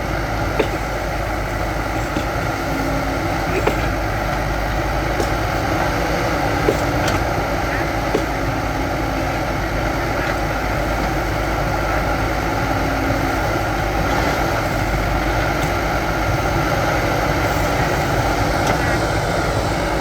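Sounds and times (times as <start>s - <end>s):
diesel engines running: 0.0s - 20.0s.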